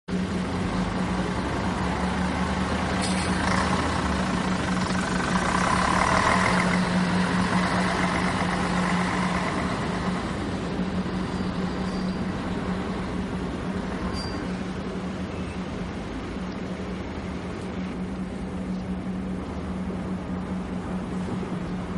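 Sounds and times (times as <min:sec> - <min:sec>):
mechanical drone: 0:00.1 - 0:21.9.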